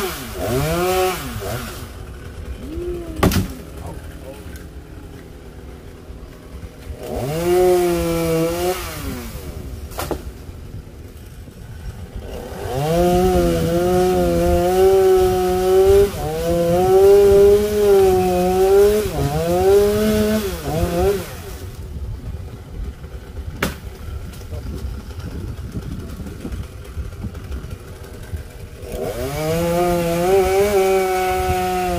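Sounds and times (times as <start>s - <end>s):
chainsaw revving and idling: 0.0s - 31.9s.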